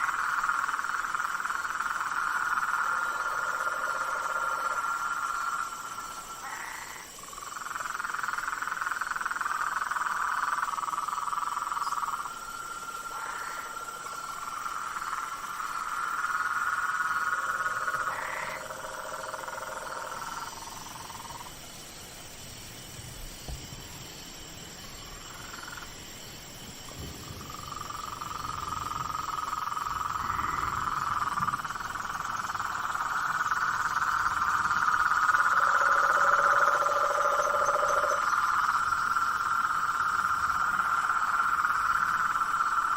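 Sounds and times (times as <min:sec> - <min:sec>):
frog chorus trilling: 0:00.0 - 0:21.6, 0:25.0 - 0:26.0, 0:27.2 - 0:42.9.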